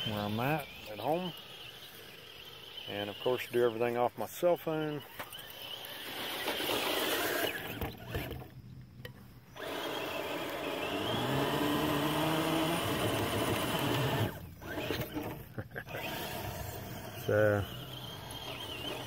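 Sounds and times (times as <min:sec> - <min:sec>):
toy car motor whining: 0:00.0 - 0:08.5, 0:09.5 - 0:19.0.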